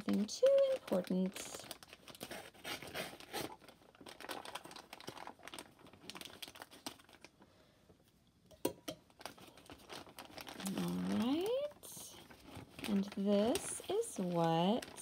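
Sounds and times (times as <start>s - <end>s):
scissors cutting plastic bag: 0.0s - 7.1s, 9.2s - 15.0s
plastic crinkling: 0.0s - 7.5s, 9.0s - 15.0s.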